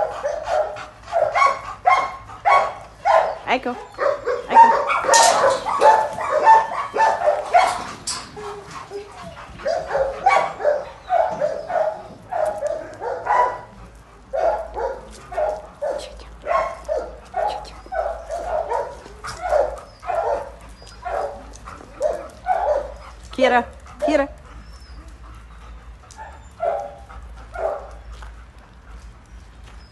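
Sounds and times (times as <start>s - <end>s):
dogs barking: 0.0s - 28.6s.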